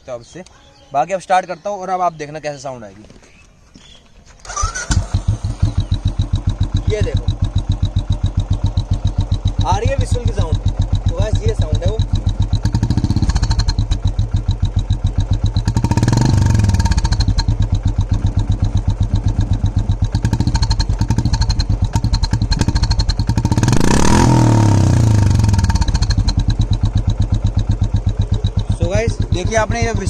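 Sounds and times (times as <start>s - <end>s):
engine throttle blips: 4.4s - 30.0s
motorcycle engine idling: 4.4s - 30.0s.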